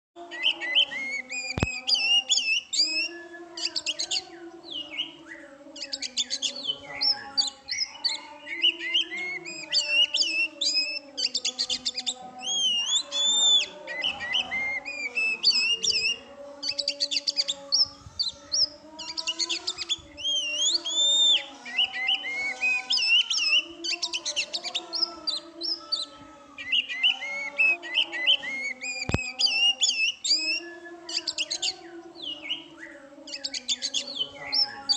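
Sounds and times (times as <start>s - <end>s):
bird singing whistles and trills: 0.3s - 34.9s.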